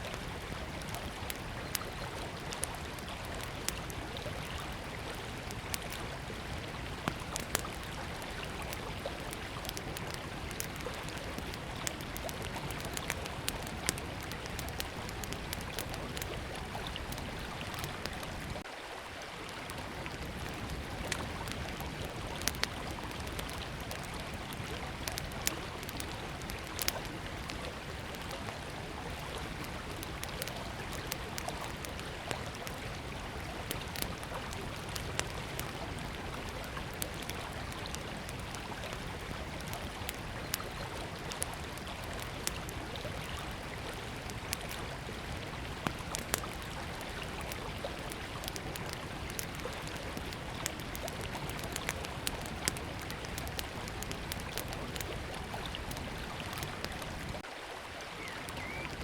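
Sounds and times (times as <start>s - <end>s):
river flowing: 0.0s - 59.0s
wood fire crackling and popping: 0.1s - 18.7s, 19.7s - 57.5s.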